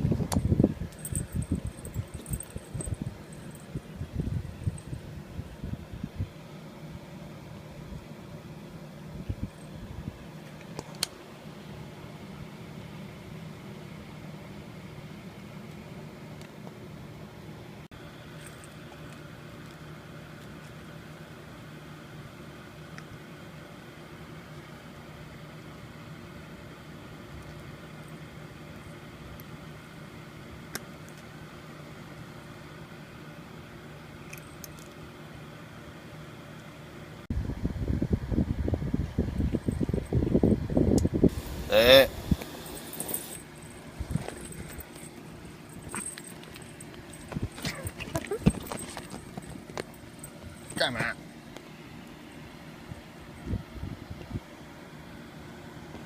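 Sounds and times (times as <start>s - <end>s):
small machine humming: 0.0s - 56.0s.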